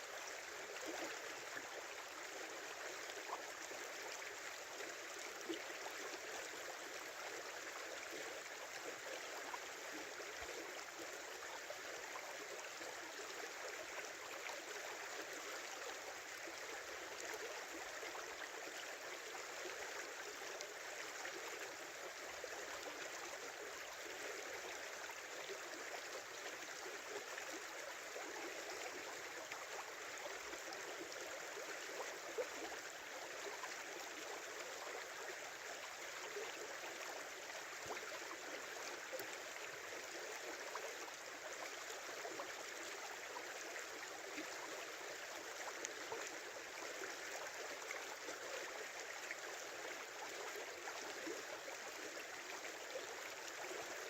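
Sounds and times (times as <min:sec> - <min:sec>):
river flowing over its bed: 0:00.0 - 0:54.0.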